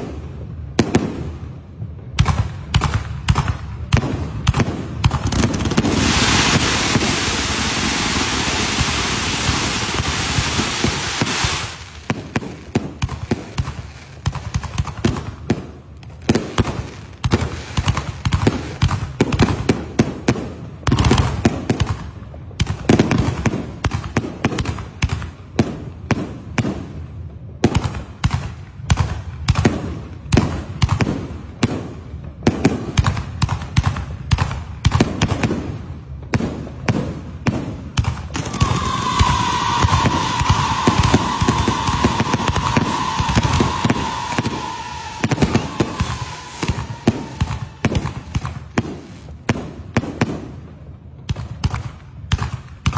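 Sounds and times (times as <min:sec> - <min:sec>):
fireworks bangs and pops: 0:00.0 - 0:52.9
fireworks crackling: 0:00.0 - 0:52.9.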